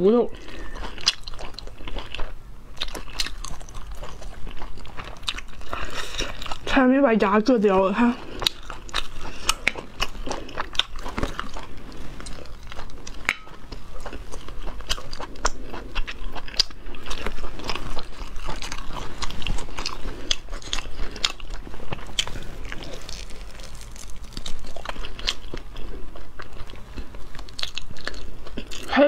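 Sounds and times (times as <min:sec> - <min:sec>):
person chewing meat: 0:00.3 - 0:06.8, 0:08.0 - 0:29.0.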